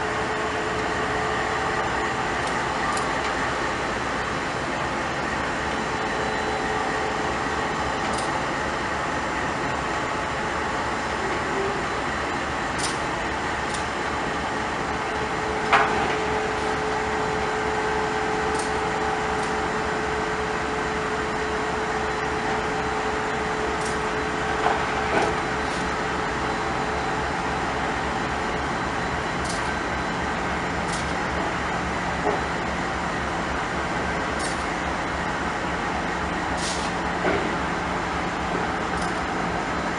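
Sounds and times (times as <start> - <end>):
train cars rolling past: 0.0 - 39.9.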